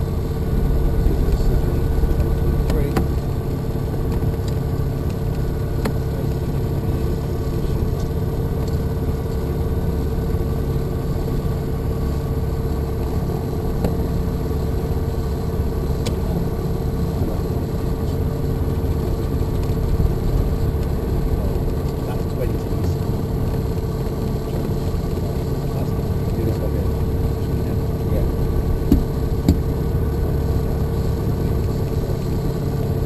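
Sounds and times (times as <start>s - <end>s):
aircraft engine and propeller drone: 0.0s - 33.0s.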